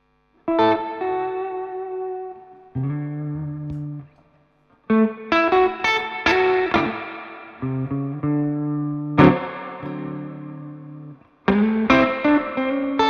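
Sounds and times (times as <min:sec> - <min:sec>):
electric guitar playing: 0:00.4 - 0:04.3, 0:04.9 - 0:13.0.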